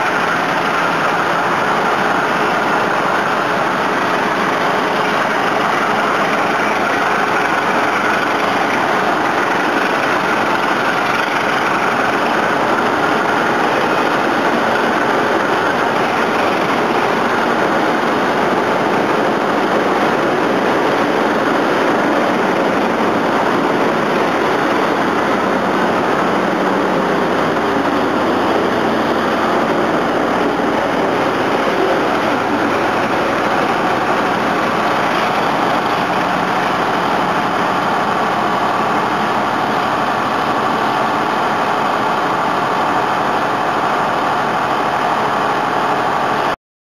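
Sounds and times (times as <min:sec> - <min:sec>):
diesel train running: 0:00.0 - 0:46.6.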